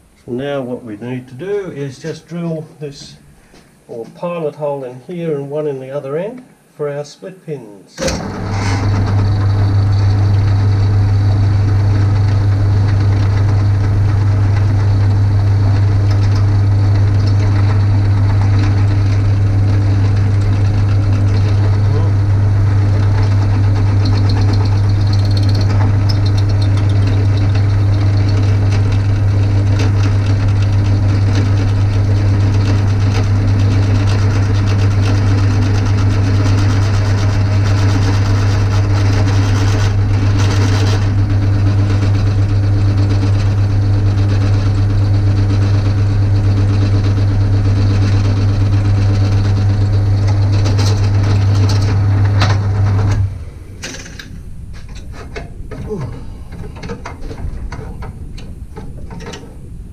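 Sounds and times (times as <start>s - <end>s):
drill press motor humming: 8.0s - 58.7s.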